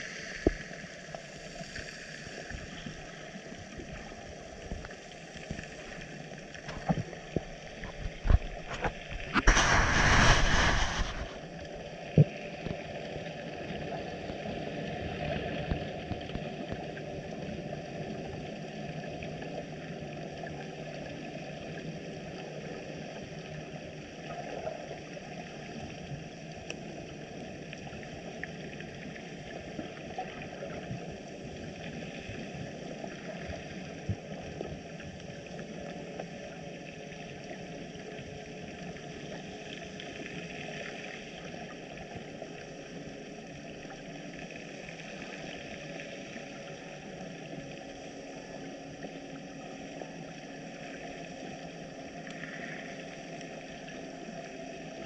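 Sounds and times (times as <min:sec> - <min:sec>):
underwater hum and hiss: 0:00.0 - 0:55.0.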